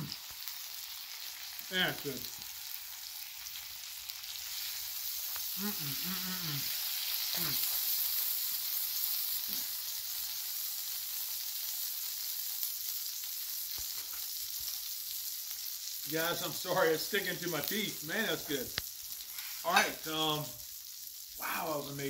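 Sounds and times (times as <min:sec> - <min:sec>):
meat sizzling on a griddle: 0:00.0 - 0:22.0.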